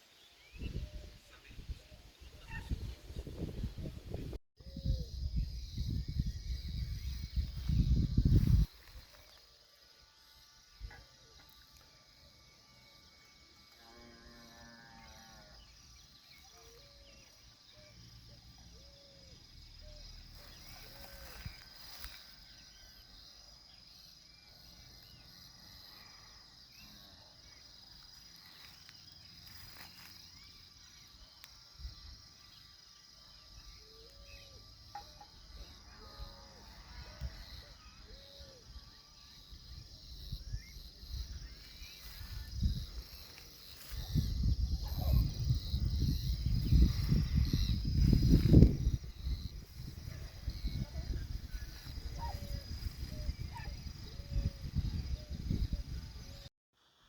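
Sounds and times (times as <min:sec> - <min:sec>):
high insect trill: 0:04.6 - 0:57.0.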